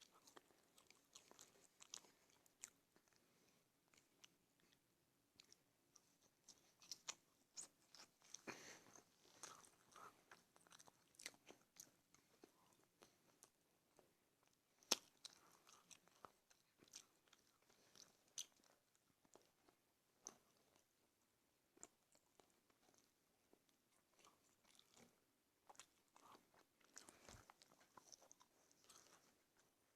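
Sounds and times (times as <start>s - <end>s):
person chewing food: 0.0s - 21.0s, 21.7s - 29.9s.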